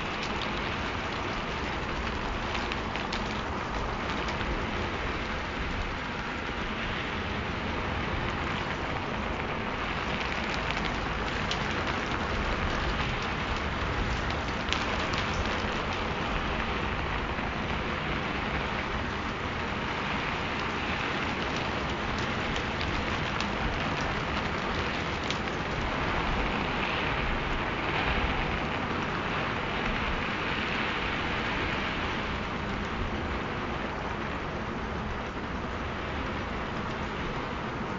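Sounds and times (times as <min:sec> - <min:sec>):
raindrop ticks: 0:00.0 - 0:37.9
steady rain hiss: 0:00.0 - 0:37.9.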